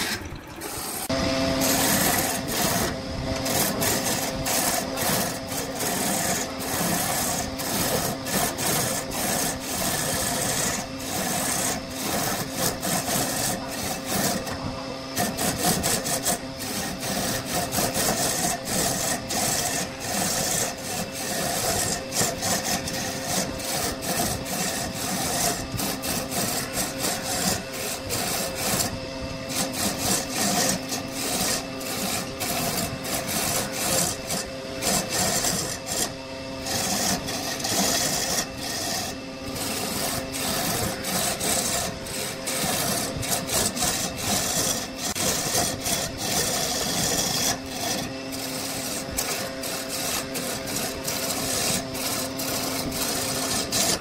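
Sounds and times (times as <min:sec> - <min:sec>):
turning tool scraping wood: 0:00.0 - 0:54.0
wood lathe humming: 0:00.0 - 0:54.0.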